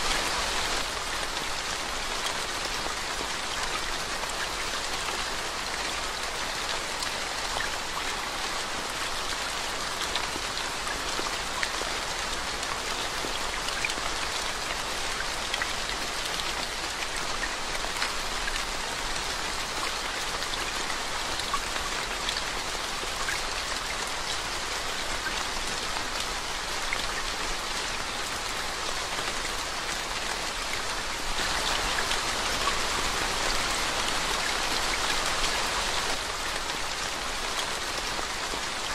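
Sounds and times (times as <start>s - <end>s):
rain on wet road: 0.0s - 38.9s.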